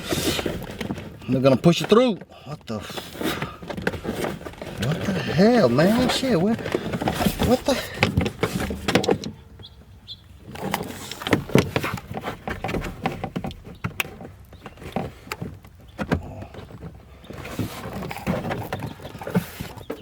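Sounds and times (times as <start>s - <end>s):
wire and plastic trim scraping: 0.0s - 20.0s.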